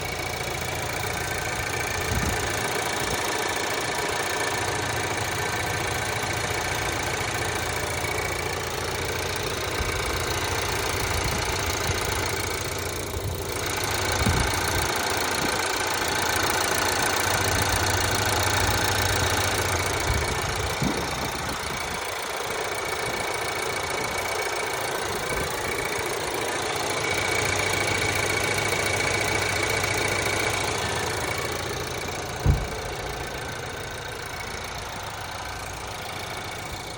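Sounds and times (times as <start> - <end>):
car engine idling with knock: 0.0 - 36.9.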